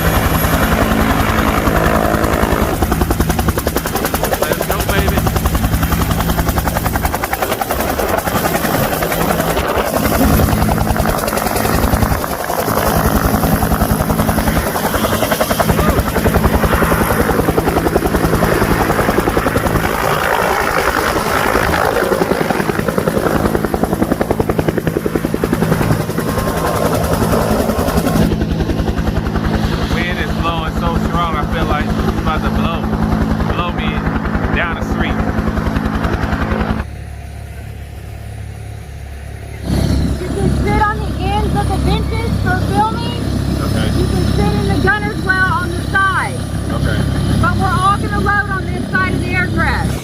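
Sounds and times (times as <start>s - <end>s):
helicopter engine drone: 0.0s - 50.0s
helicopter rotor chopping: 0.0s - 50.0s.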